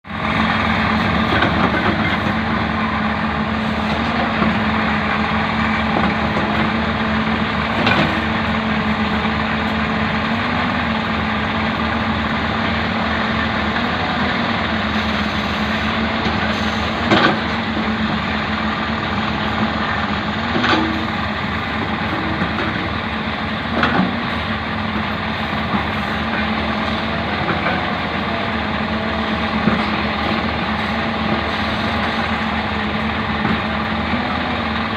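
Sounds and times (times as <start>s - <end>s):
backhoe diesel engine running: 0.0s - 34.9s.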